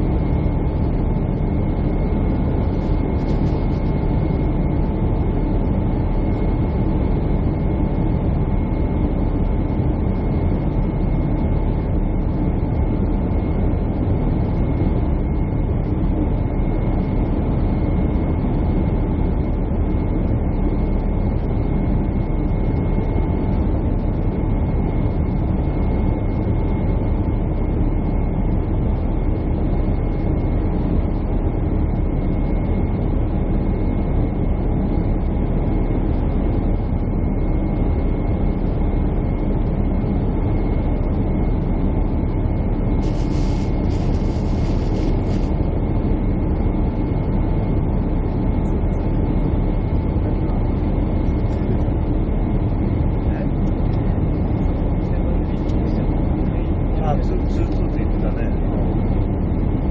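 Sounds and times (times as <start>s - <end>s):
faint steady whine: 0.0s - 59.9s
jet engines and airflow roar: 0.0s - 59.9s.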